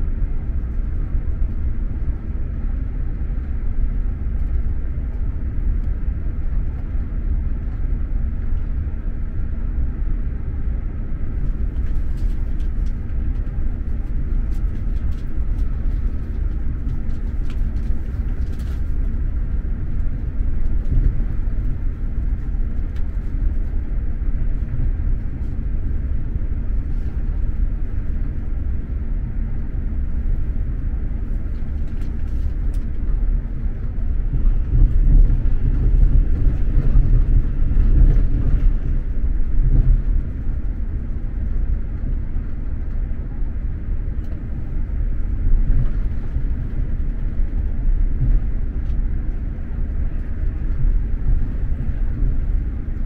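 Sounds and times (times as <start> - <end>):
train rumble inside carriage: 0.0 - 53.0.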